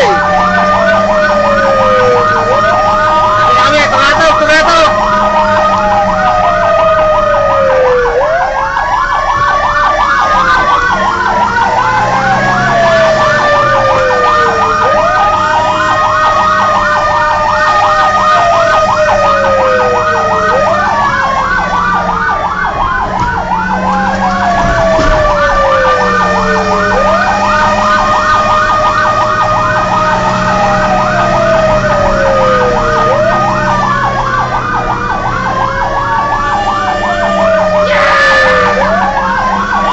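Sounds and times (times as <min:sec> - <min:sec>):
fast warbling siren: 0:00.0 - 0:39.9
steady high siren tone: 0:00.0 - 0:39.9
wailing siren: 0:00.0 - 0:39.9.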